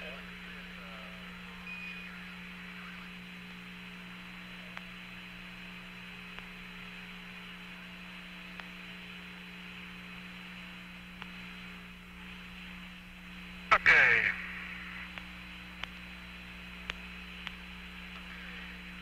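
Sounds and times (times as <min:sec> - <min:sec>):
radio channel hum and hiss: 0:00.0 - 0:19.0.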